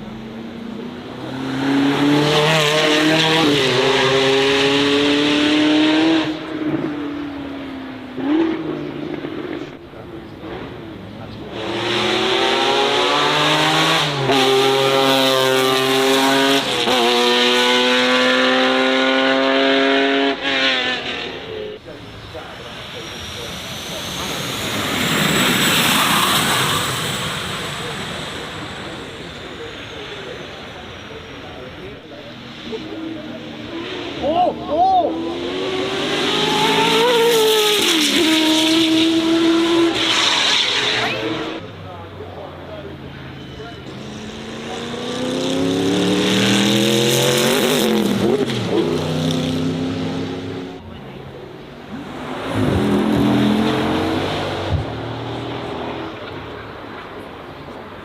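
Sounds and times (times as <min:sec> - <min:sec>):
race car engine accelerating: 0:00.0 - 0:57.2.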